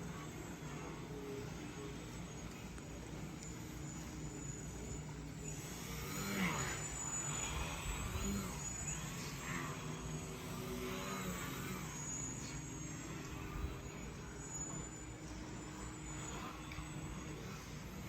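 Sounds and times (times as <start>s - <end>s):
motor running: 0.0s - 18.0s.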